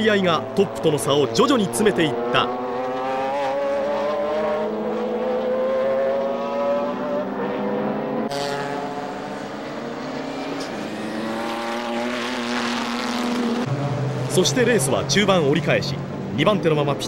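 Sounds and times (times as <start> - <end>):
race car engines at high revs: 0.0 - 17.0.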